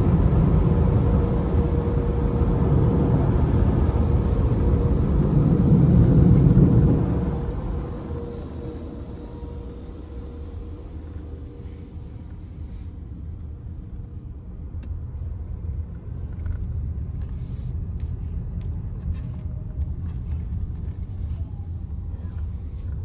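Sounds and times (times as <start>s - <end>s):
low rumble inside car: 0.0s - 23.0s.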